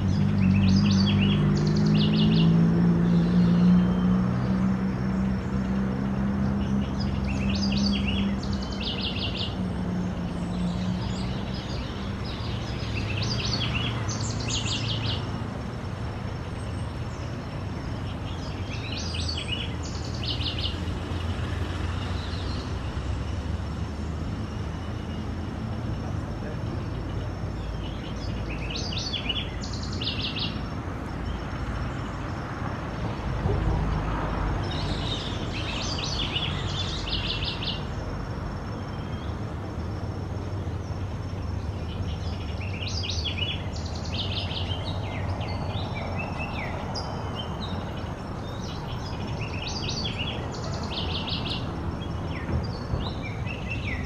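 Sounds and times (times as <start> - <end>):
hummingbird chirping: 0.0 - 32.4, 34.6 - 54.0.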